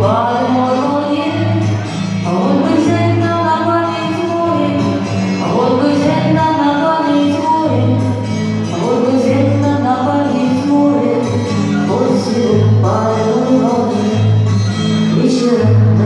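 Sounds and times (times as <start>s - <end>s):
song with singing and guitar: 0.0s - 16.0s.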